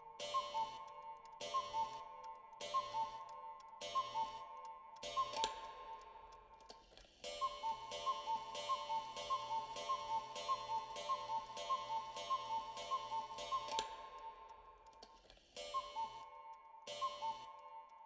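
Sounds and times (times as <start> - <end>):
clock ticking: 0.0 - 18.0.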